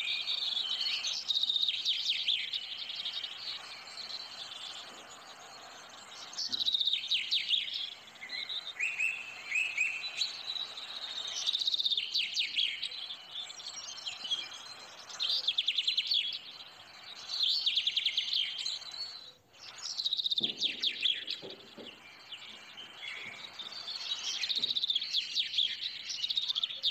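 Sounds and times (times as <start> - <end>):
small birds chirping in trills: 0.0 - 26.9.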